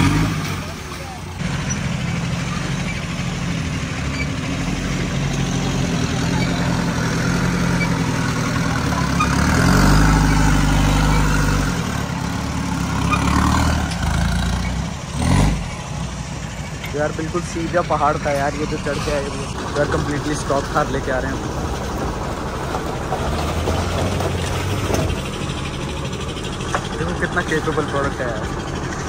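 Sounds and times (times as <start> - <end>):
off-road vehicle engine under load: 0.0 - 29.0.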